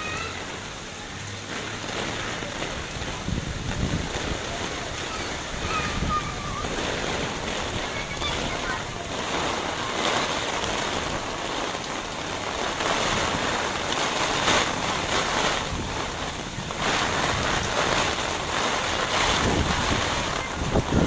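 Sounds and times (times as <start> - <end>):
heavy rain falling: 0.0 - 21.0
wind on microphone: 1.6 - 21.0.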